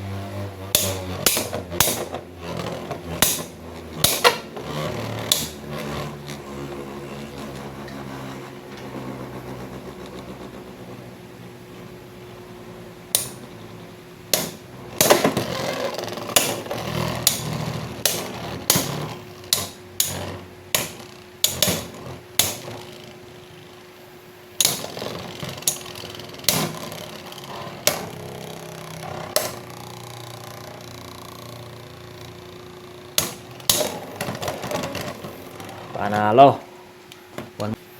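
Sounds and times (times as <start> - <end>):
whirr of spinning tops: 0.0 - 37.8.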